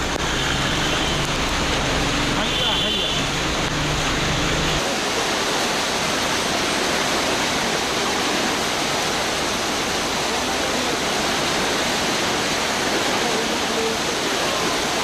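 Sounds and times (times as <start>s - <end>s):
heavy rain rushing: 0.0s - 15.0s.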